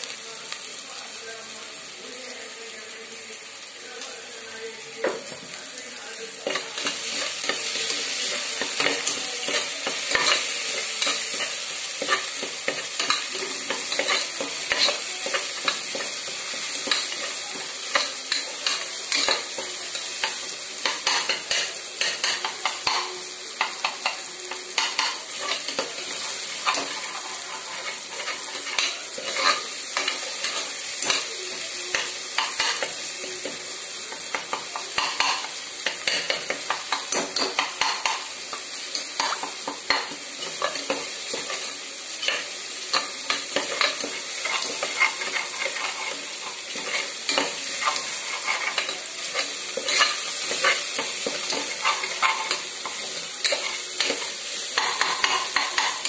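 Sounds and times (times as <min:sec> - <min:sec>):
chicken sizzling in a pot: 0:00.0 - 0:56.0.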